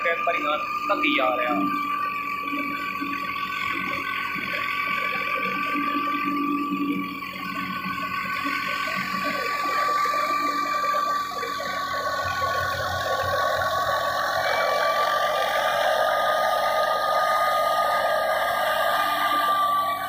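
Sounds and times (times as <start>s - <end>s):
high whine: 0.0s - 20.0s
threshing machine running: 0.0s - 20.0s.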